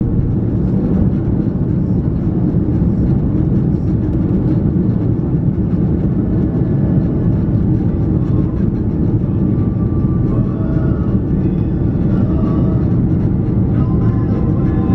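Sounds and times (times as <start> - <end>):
air rushing past fuselage: 0.0 - 14.9
airliner engines rumbling: 0.0 - 14.9.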